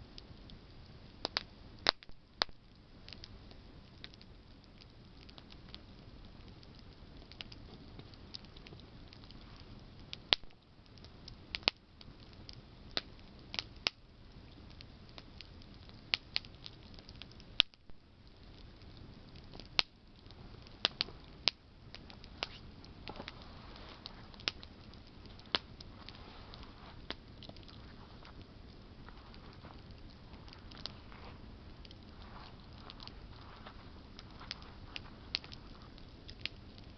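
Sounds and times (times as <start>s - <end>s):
campfire crackling and popping: 0.0s - 36.9s
low steady background noise: 0.0s - 36.9s.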